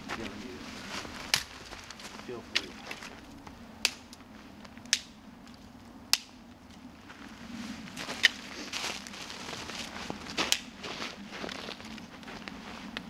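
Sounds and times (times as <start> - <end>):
campfire crackling and popping: 1.0 - 6.8, 7.9 - 13.0.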